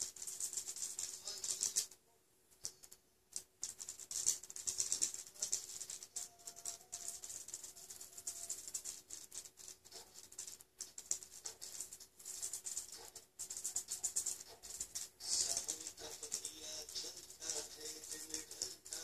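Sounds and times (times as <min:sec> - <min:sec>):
paintbrush scrubbing on palette: 0:03.6 - 0:19.0.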